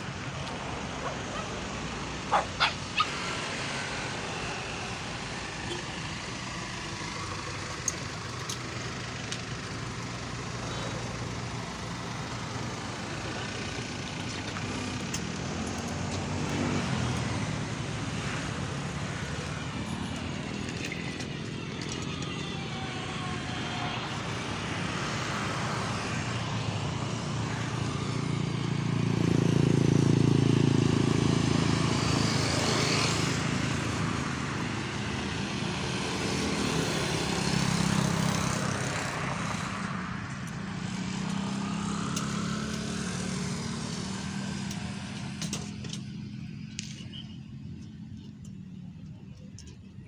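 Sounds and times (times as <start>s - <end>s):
vehicle engines passing: 0.0s - 50.0s.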